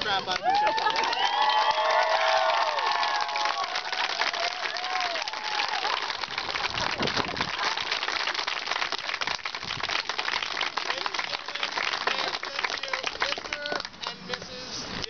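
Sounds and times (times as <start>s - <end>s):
crowd applauding: 0.0s - 14.4s.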